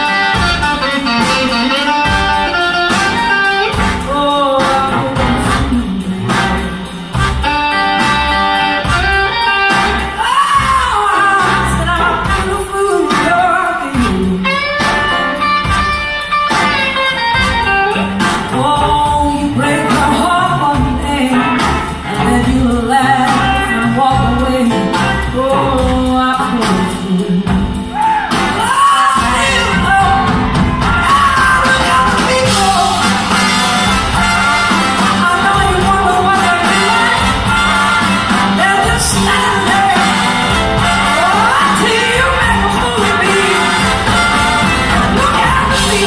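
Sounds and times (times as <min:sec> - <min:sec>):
blues band playing live: 0:00.0 - 0:46.0
lead singer: 0:00.0 - 0:46.0.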